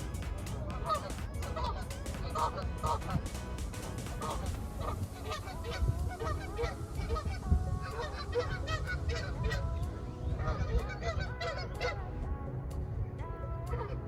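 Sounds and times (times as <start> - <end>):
geese honking: 0.0 - 12.1.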